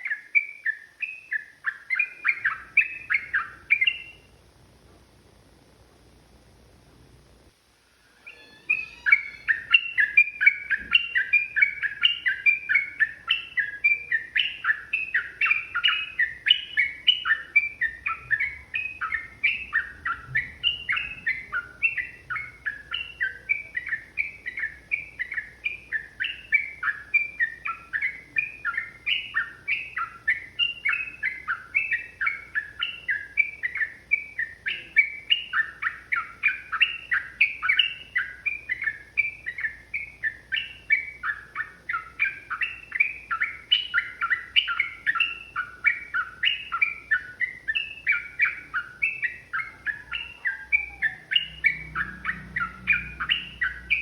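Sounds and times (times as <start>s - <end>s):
bird chattering song: 0.0s - 4.4s, 8.1s - 54.0s.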